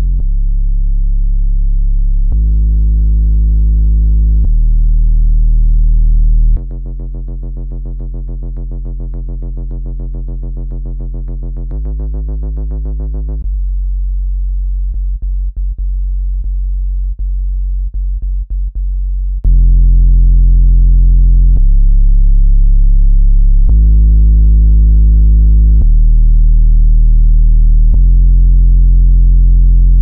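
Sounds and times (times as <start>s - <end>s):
low buzzing synthesized tone: 0.0s - 15.1s, 19.4s - 30.0s.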